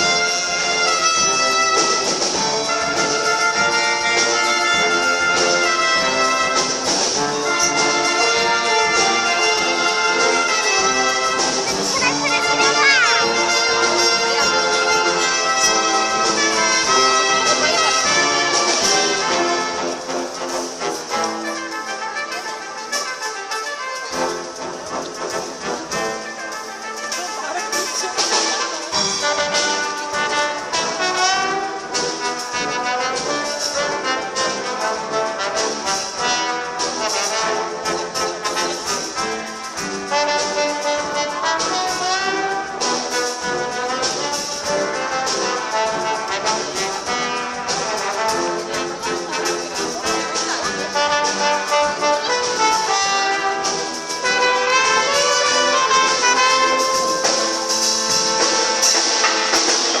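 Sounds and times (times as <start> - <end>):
live brass band music: 0.0 - 60.0.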